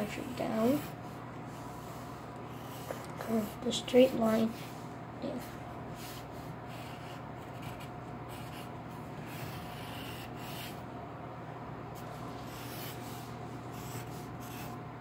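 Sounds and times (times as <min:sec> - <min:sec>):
pencil scratching on paper: 0:00.0 - 0:04.7, 0:05.3 - 0:10.8, 0:12.0 - 0:14.8
steady low hum: 0:00.0 - 0:15.0.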